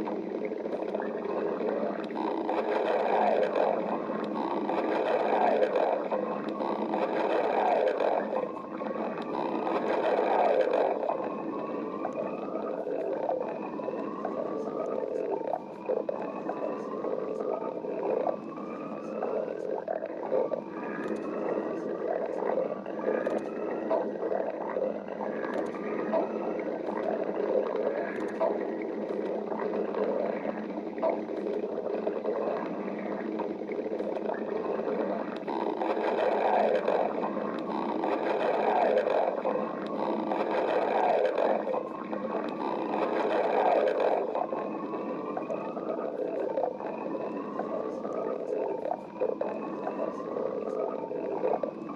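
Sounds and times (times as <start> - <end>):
stomach growling and gurgling: 0.0 - 51.9.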